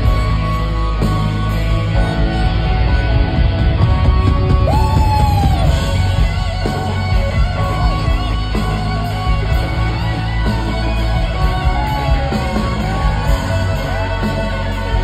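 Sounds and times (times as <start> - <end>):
electric guitar lead: 0.0 - 15.0
live rock band: 0.0 - 15.0.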